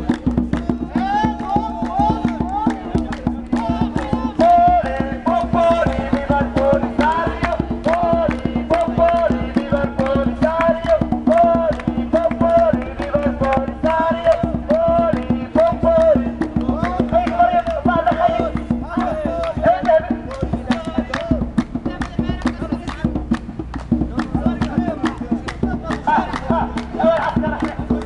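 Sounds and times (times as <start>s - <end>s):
high voices singing: 0.0s - 23.2s, 24.2s - 28.0s
hand drum beating: 0.0s - 28.0s.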